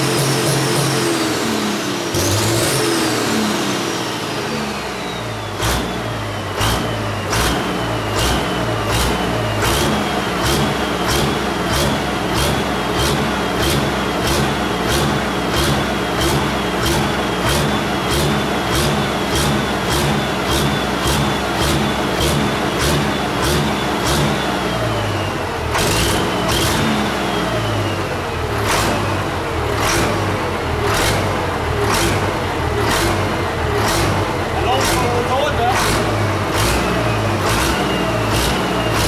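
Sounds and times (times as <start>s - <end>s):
tractor engine fast idle: 0.0s - 39.0s.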